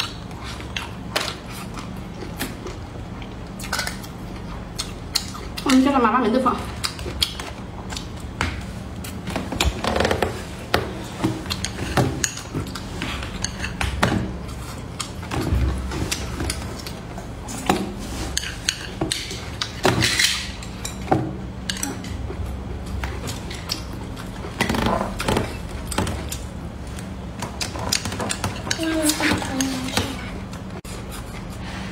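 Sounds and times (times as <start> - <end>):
person chewing food: 0.0 - 5.7, 6.7 - 28.8.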